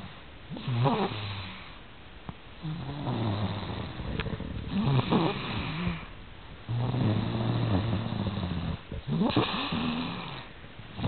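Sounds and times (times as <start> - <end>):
snoring: 0.5 - 1.8, 2.6 - 6.1, 6.7 - 11.0.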